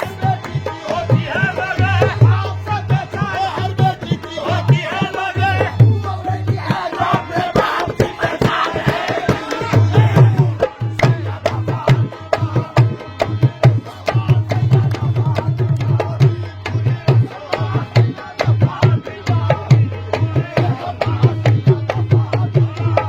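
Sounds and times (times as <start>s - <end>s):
voices singing: 0.0s - 23.0s.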